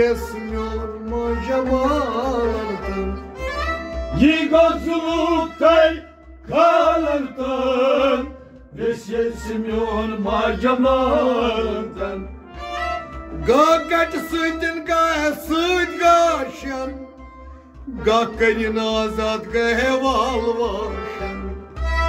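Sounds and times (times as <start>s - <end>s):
folk music wavering melody: 0.0s - 22.0s.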